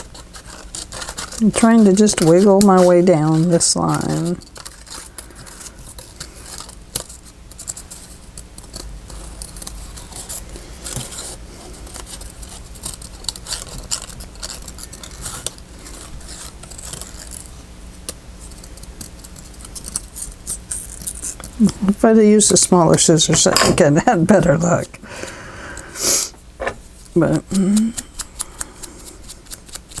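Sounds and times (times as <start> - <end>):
scissors cutting paper: 0.0 - 24.9, 27.0 - 30.0.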